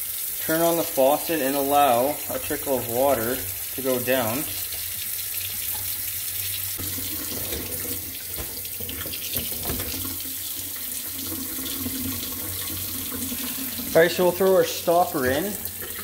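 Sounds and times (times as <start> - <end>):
faucet running into metal sink: 0.0 - 16.0.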